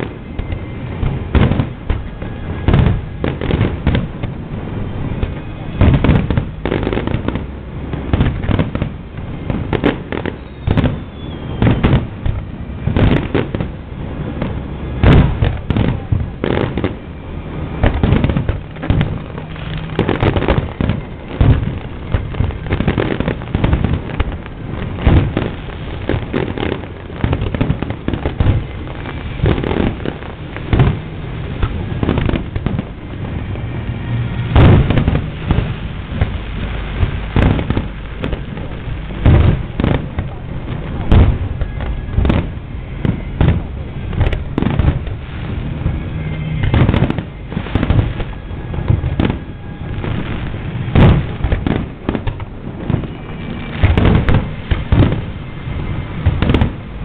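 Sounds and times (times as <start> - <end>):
fireworks bursting: 0.0 - 57.0
heavy firework booms: 0.0 - 57.0.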